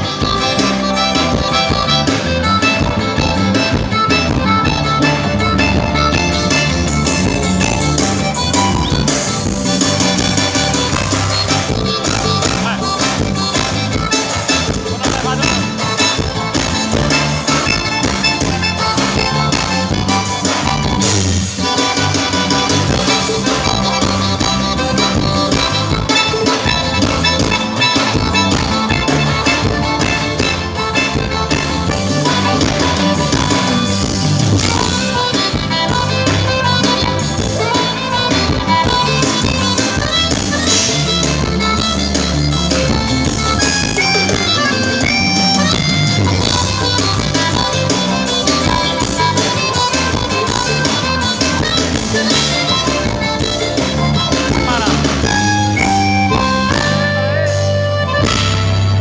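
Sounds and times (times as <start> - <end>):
accordion: 0.0 - 59.0
drum kit beat: 0.0 - 59.0
live band playing: 0.0 - 59.0.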